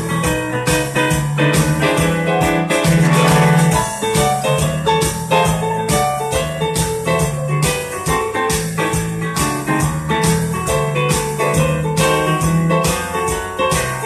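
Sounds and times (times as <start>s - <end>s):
digital piano blues: 0.0s - 14.0s.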